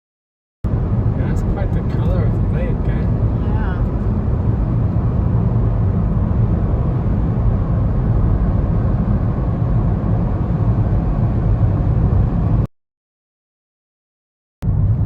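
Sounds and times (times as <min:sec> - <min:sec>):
car road and engine rumble: 0:00.7 - 0:12.7, 0:14.6 - 0:15.0.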